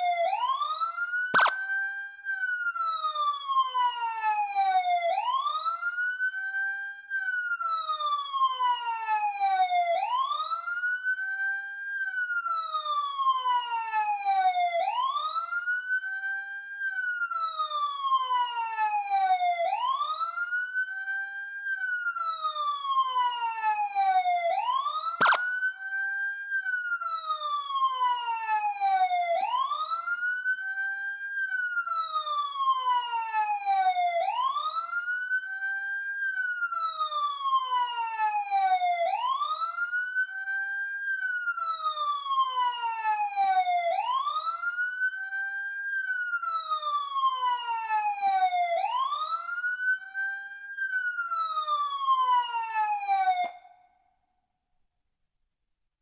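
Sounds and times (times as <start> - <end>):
police siren wailing: 0.0 - 53.9.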